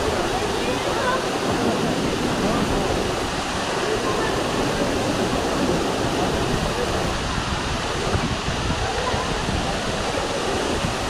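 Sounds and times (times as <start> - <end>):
waterfall crashing into pool: 0.0 - 11.0.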